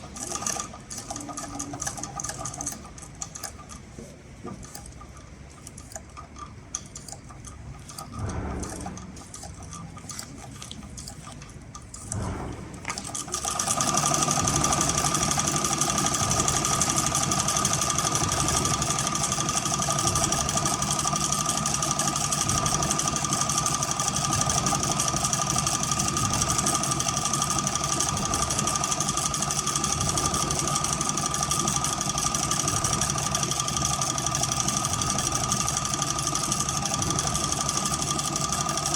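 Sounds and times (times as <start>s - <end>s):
sewing machine stitching: 0.0s - 38.9s.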